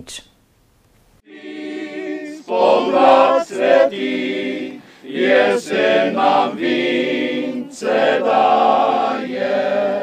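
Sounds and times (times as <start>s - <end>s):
men singing in harmony: 1.3s - 10.0s.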